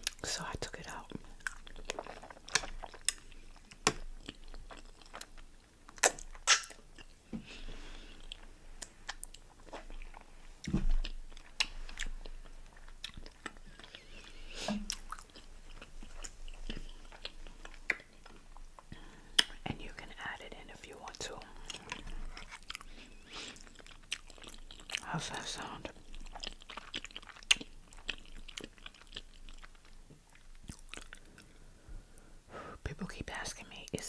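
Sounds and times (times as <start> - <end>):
mouth chewing and crunching: 0.0 - 31.6.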